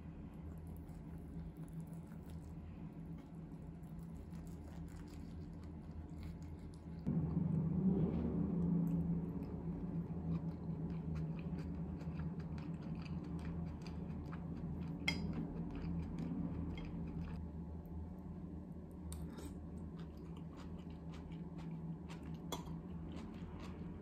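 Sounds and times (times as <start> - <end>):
low hum: 0.0 - 24.0
soft chewing: 0.4 - 7.1, 9.3 - 17.4, 19.0 - 24.0.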